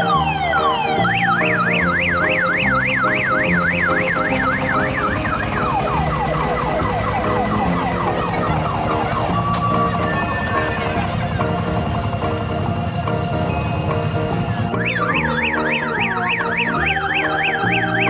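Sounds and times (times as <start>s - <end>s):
electronic siren wailing: 0.0s - 13.1s, 14.6s - 18.0s
background music: 0.0s - 18.0s.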